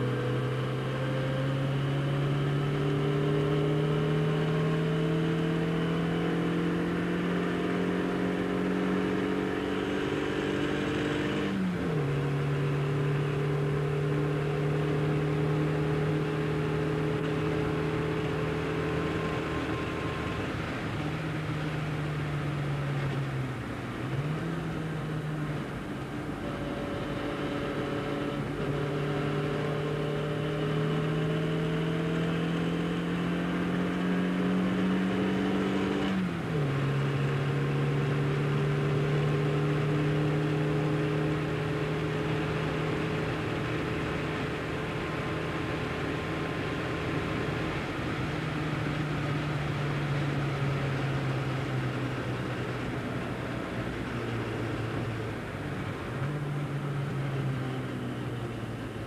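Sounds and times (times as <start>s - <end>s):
car engine revving under load: 0.0s - 59.0s.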